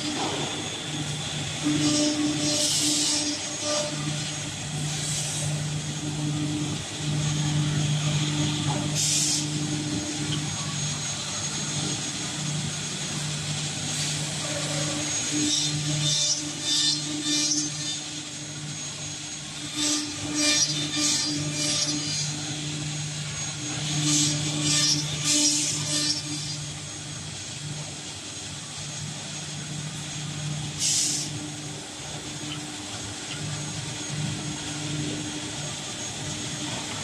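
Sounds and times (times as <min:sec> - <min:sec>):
milling machine motor hum: 0:00.0 - 0:37.0.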